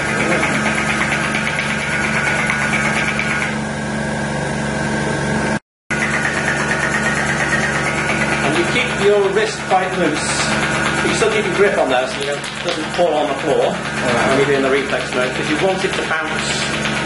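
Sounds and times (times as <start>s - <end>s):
fast fine tapping: 0.0s - 3.6s, 5.9s - 17.0s
air compressor running: 0.0s - 17.0s.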